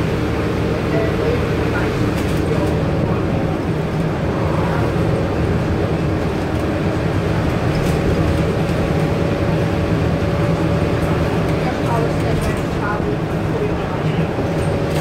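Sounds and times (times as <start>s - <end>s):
bus diesel drone: 0.0s - 15.0s.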